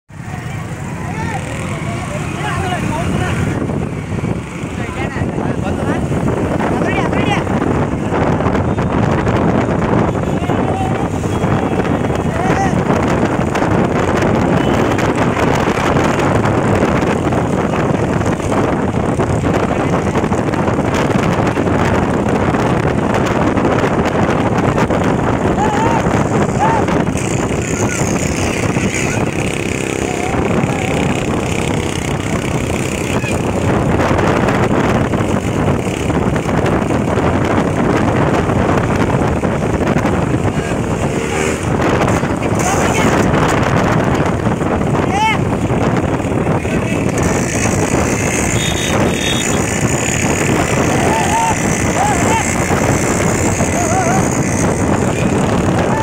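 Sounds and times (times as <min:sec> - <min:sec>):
motorcycle engines running: 0:00.1 - 0:56.0
wind buffeting microphone: 0:00.1 - 0:56.0.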